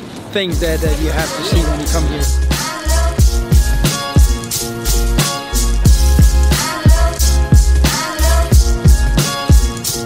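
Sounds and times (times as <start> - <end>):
held chords: 0.5 - 10.0.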